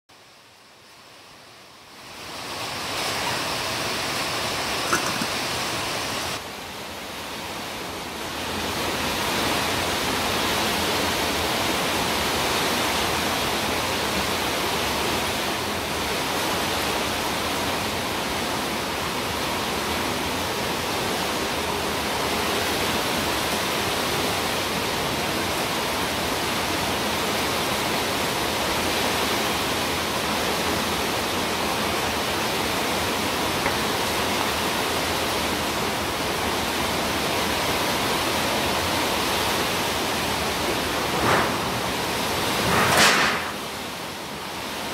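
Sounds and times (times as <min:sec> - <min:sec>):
steady hiss: 0:00.2 - 0:44.9.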